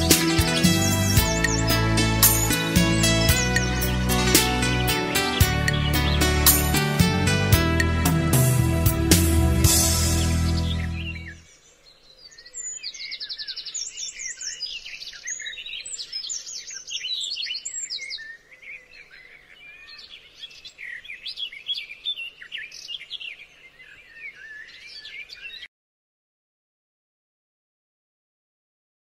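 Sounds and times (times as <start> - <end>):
birds chirping and singing: 0.0 - 25.7.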